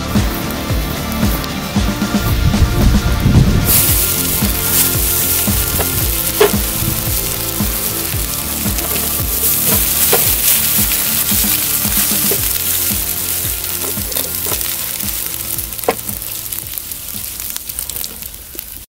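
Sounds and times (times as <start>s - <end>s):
background music with steady beat: 0.0s - 18.3s
match heads hissing and crackling: 0.0s - 18.9s.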